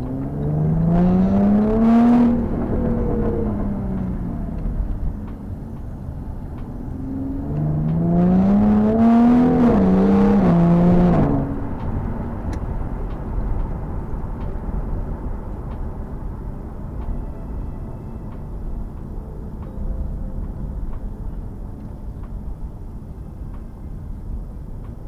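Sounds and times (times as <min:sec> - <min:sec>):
car engine revving: 0:00.0 - 0:24.2.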